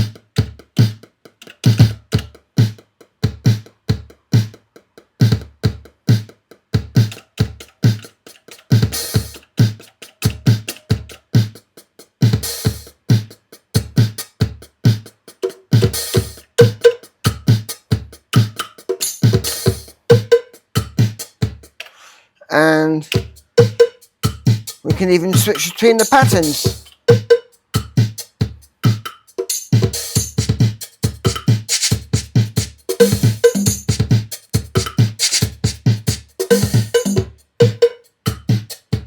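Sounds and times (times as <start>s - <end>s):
drum machine beat: 0.0s - 21.8s, 23.1s - 39.0s.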